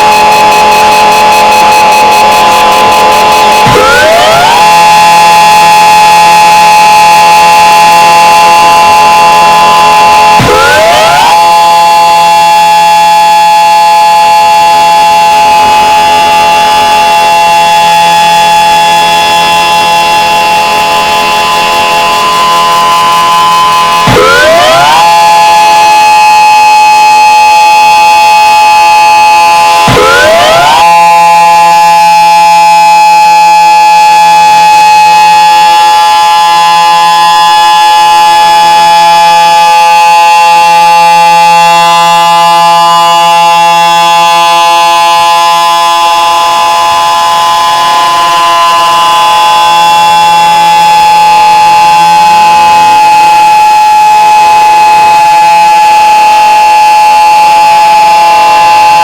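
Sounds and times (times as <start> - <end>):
emergency alarm siren: 0.0 - 59.0.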